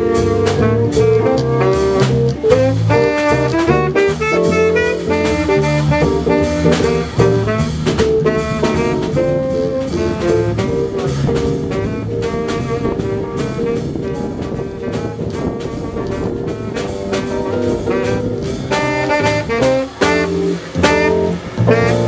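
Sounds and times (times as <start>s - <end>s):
saxophone melody: 0.0s - 22.0s
steady drum beat: 0.0s - 22.0s.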